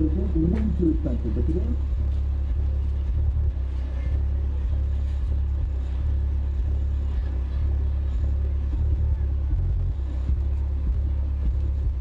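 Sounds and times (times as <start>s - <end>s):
subwoofer playing low bass tones: 0.0s - 12.0s.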